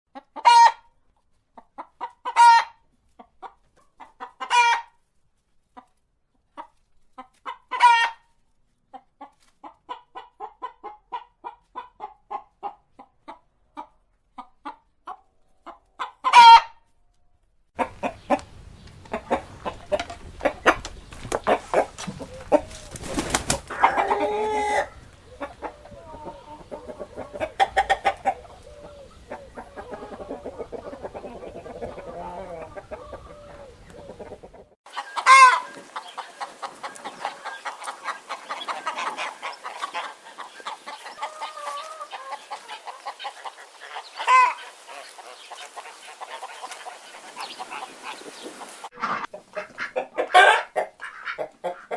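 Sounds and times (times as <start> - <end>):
chickens clucking: 0.1 - 16.9, 17.8 - 51.9
background noise: 0.1 - 51.9
chicken squawks: 0.2 - 0.9, 1.8 - 2.8, 4.0 - 5.0, 7.5 - 8.3, 9.6 - 16.8, 17.8 - 51.9.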